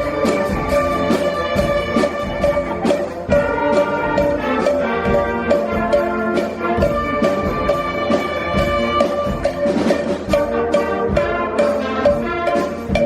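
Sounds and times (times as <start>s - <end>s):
concert band wind chords: 0.0s - 13.0s
cowbell: 0.0s - 13.0s
sharp percussion strikes: 0.0s - 13.0s.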